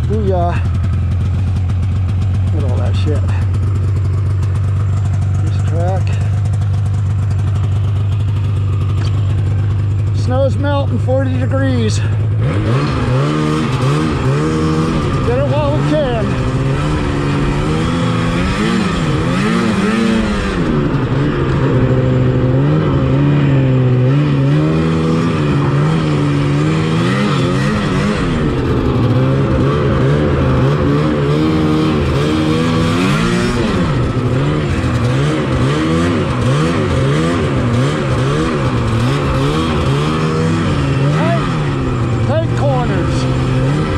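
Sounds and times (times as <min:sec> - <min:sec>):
snowmobile engine revving: 0:00.0 - 0:43.9.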